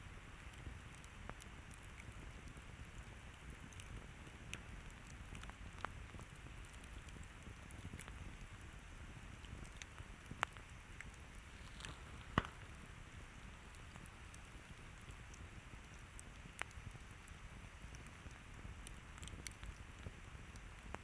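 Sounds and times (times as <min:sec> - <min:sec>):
campfire rustle and crackles: 0:00.0 - 0:21.0
fire popping: 0:00.0 - 0:21.0.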